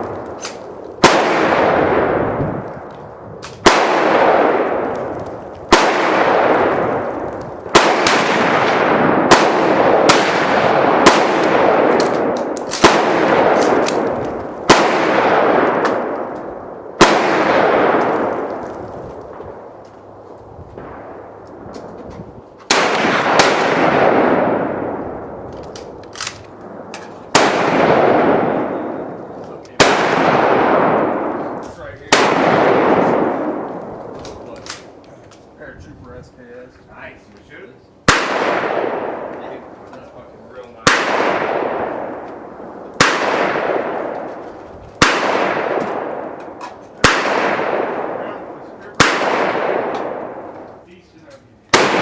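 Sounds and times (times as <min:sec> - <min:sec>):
distant gunshots: 0:00.0 - 0:02.7, 0:03.6 - 0:19.8, 0:22.7 - 0:35.0, 0:38.0 - 0:39.7, 0:40.8 - 0:44.4, 0:45.0 - 0:51.0, 0:51.7 - 0:52.0
loud gunshots with echo: 0:00.0 - 0:19.8, 0:22.7 - 0:25.4, 0:26.6 - 0:35.0, 0:38.0 - 0:39.8, 0:40.8 - 0:44.4, 0:45.0 - 0:51.0, 0:51.7 - 0:52.0.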